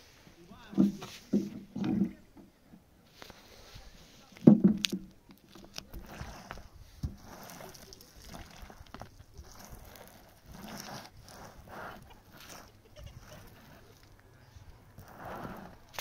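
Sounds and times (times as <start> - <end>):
broom scraping wet tar: 0.0 - 2.0, 3.0 - 4.6, 5.4 - 16.0.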